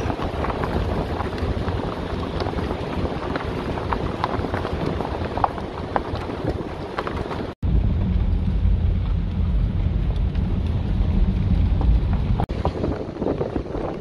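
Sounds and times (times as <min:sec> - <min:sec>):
car road noise: 0:00.0 - 0:14.0
tyres crunching over gravel: 0:00.0 - 0:14.0
wind buffeting microphone: 0:00.0 - 0:14.0.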